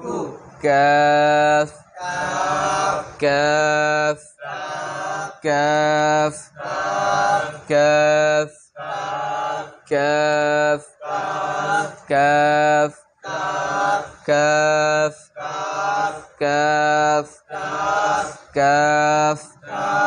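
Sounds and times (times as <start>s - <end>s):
man chanting a letter name: 0.5s - 13.0s, 13.8s - 20.0s.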